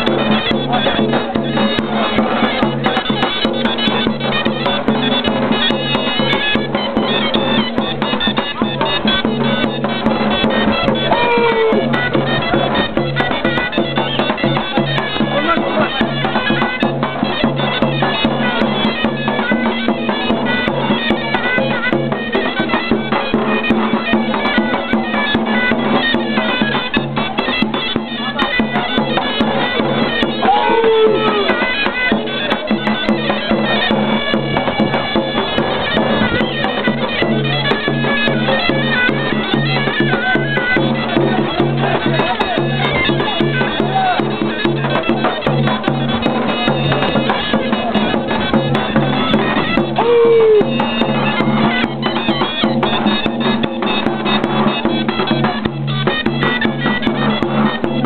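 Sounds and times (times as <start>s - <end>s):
bagpipe playing folk dance tune: 0.0s - 58.0s
sharp drum beats: 0.0s - 58.0s.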